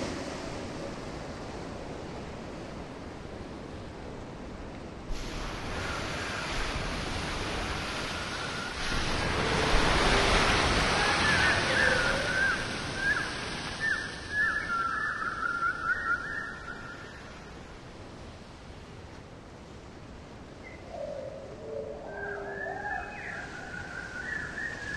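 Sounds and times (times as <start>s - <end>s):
sea surf washing on shore: 0.0s - 20.6s.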